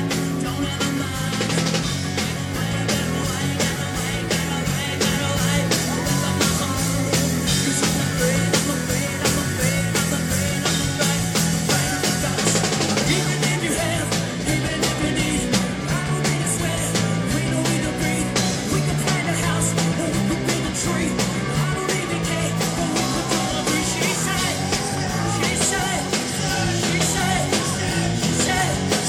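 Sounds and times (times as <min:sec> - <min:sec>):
drum kit beating: 0:00.0 - 0:29.0
electric guitar: 0:00.0 - 0:29.0
man singing into a microphone: 0:00.0 - 0:29.0
rock band playing: 0:00.0 - 0:29.0.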